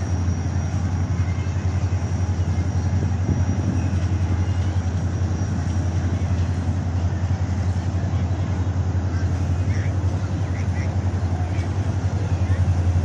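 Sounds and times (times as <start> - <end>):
distant locomotive drone: 0.0 - 13.0.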